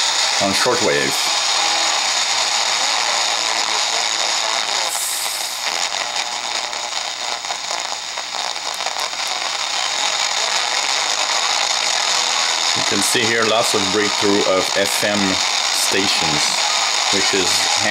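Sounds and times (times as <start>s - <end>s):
radio static hiss: 0.0s - 17.9s.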